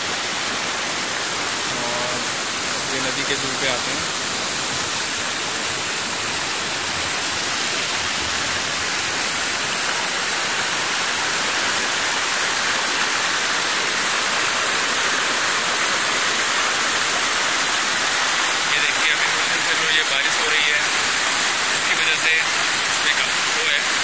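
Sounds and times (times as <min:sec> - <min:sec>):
river rushing over boulders: 0:00.0 - 0:24.0.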